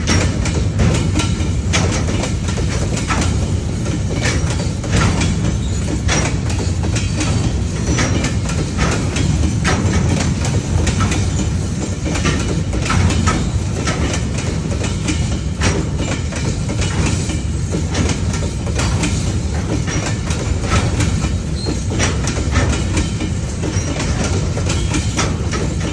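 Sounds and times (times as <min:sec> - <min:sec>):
train low rumble: 0:00.0 - 0:25.9
wheels clattering over rail joints: 0:00.0 - 0:25.9.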